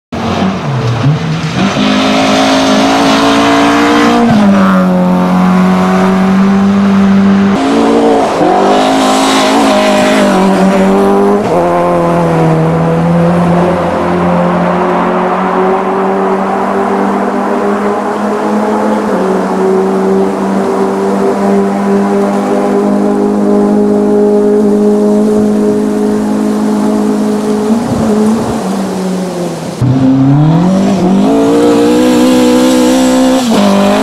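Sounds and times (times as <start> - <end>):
rally car engine at high revs: 0.2 - 34.0.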